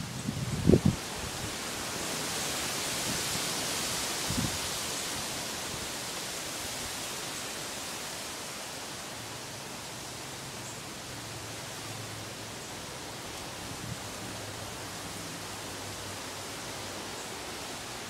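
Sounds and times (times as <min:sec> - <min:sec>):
wind rushing through trees: 0:00.0 - 0:18.0.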